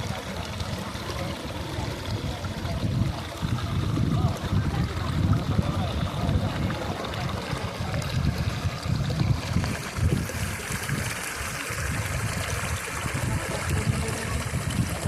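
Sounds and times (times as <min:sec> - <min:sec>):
low rumble of water: 0:00.0 - 0:15.0
river water flowing: 0:00.0 - 0:15.0.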